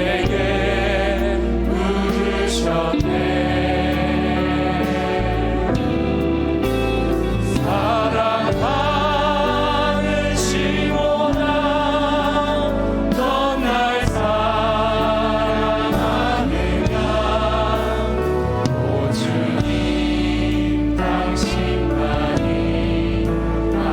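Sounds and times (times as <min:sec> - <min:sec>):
people singing long notes: 0:00.0 - 0:06.6, 0:07.4 - 0:23.9
worship band playing: 0:00.0 - 0:23.9.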